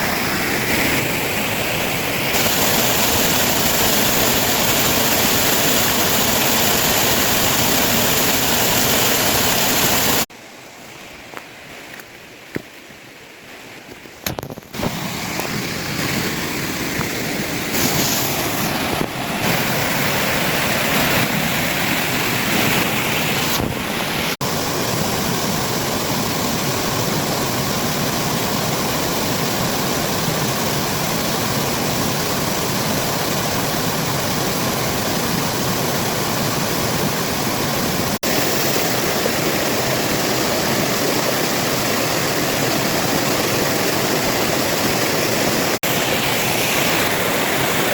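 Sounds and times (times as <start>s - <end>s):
waterfall rushing: 0.0s - 10.3s, 14.7s - 47.9s.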